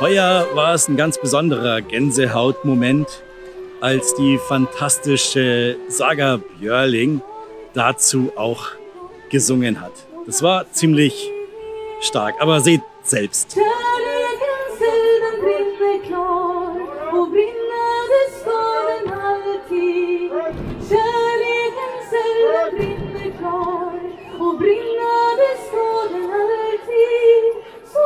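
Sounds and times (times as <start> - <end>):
woman singing: 0.0 - 28.0.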